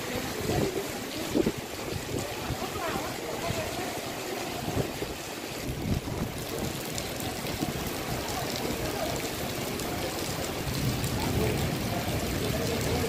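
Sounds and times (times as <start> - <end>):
gusting storm wind: 0.0 - 13.0
heavy rain: 0.0 - 13.0
wind buffeting microphone: 0.2 - 3.8, 4.6 - 8.9, 9.6 - 13.0.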